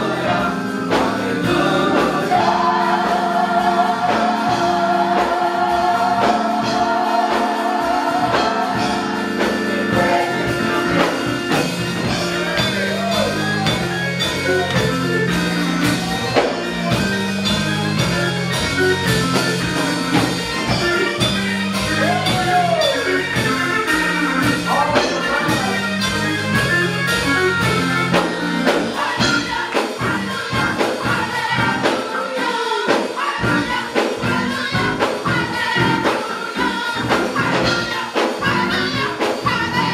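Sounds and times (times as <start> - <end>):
drums keeping a steady beat: 0.0 - 39.9
gospel choir singing: 0.0 - 39.9
keyboard: 0.0 - 39.9.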